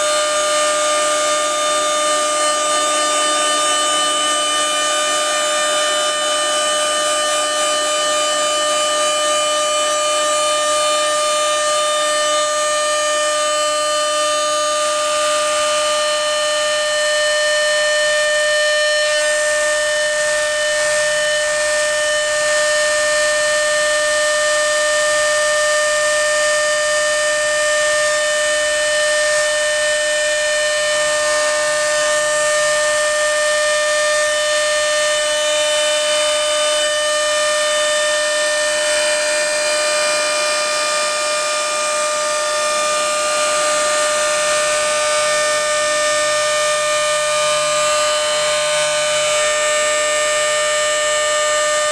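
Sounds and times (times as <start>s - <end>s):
router spindle high-pitched whine: 0.0s - 51.9s.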